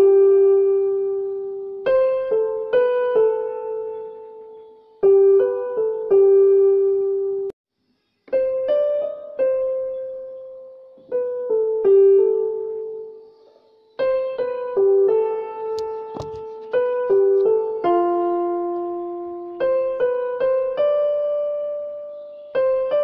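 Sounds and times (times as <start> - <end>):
slow piano melody: 0.0 - 7.6, 8.2 - 23.0.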